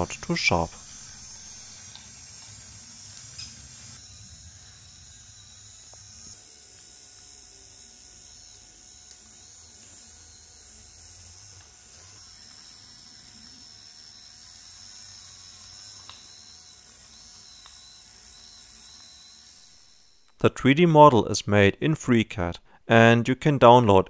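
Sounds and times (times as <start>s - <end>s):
toy motors whirring: 0.0s - 20.4s.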